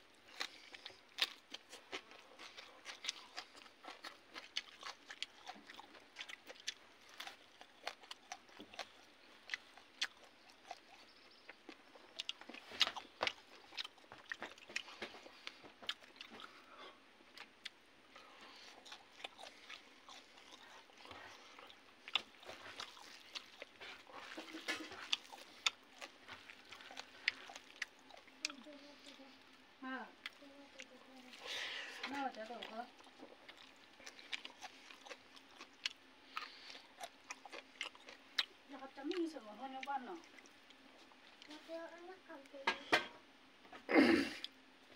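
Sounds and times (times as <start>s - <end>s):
man chewing food: 0.0s - 41.7s, 43.3s - 44.9s.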